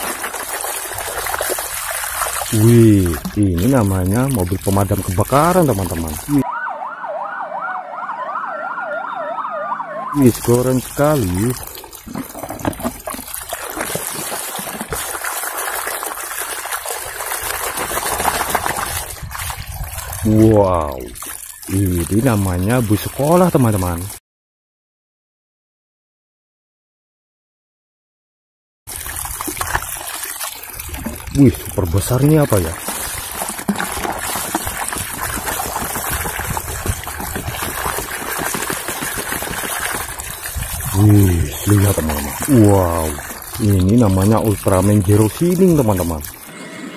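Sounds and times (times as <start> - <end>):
small splashes: 0.0 - 6.5, 9.4 - 24.2, 28.9 - 46.5
water sloshing in a bucket: 0.0 - 6.5, 9.3 - 24.2, 28.9 - 46.5
water pouring into bucket: 0.0 - 6.6, 8.7 - 24.2, 28.9 - 46.6.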